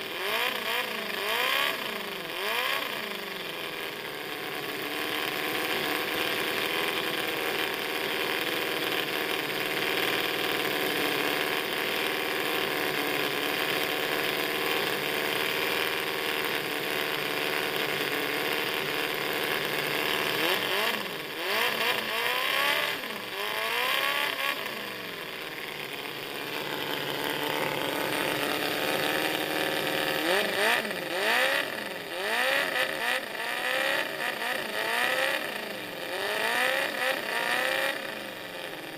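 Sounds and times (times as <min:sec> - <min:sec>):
small petrol engine revving: 0:00.0 - 0:38.9.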